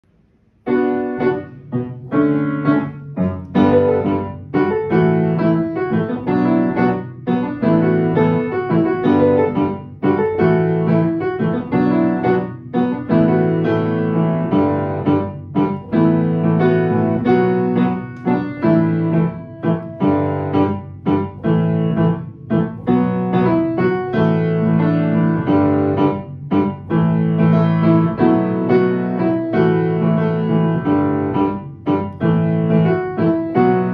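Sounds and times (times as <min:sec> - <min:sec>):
solo piano playing: 0:00.0 - 0:33.9.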